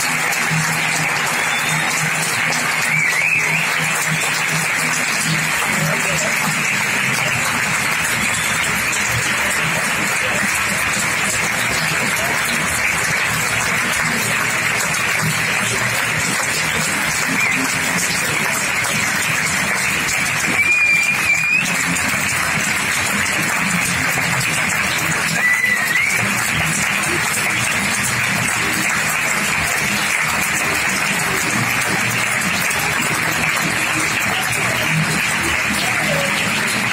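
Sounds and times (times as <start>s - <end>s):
audience applauding: 0.0s - 36.9s.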